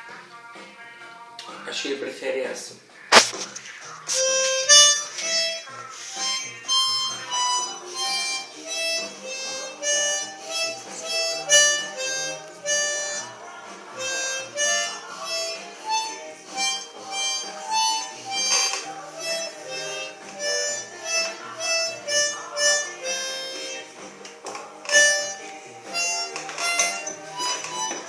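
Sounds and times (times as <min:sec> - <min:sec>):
harmonica slow melody: 0:03.1 - 0:28.0.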